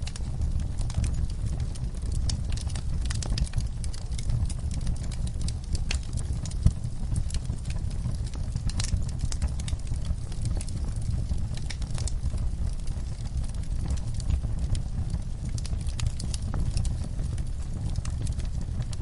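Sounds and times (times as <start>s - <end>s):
fire roaring: 0.0s - 19.0s
logs crackling and popping: 0.0s - 19.0s.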